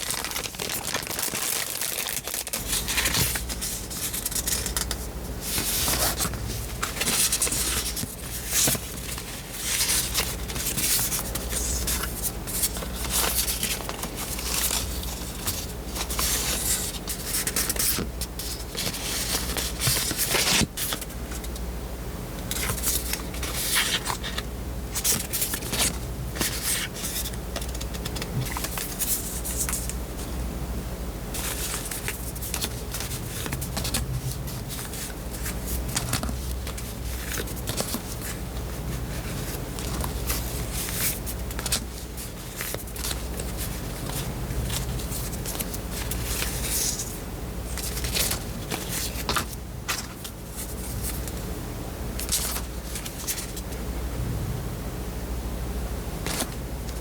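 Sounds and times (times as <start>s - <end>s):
paper and plastic rustling: 0.0s - 21.6s, 22.5s - 30.0s, 31.4s - 51.4s, 52.2s - 53.8s
steady low hum: 0.0s - 57.0s.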